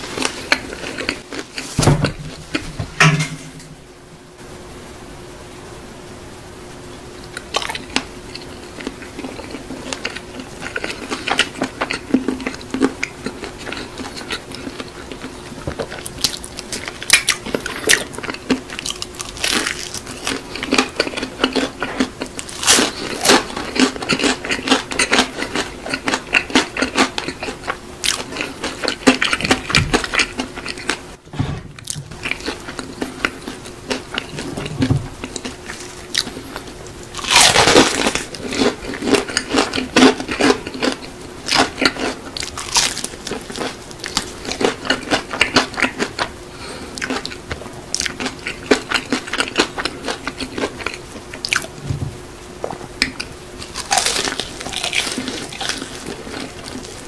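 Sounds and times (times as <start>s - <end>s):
crunchy chewing of fried chicken: 0.0s - 2.8s, 7.2s - 31.2s, 31.8s - 57.0s
steady low hum: 0.0s - 57.0s.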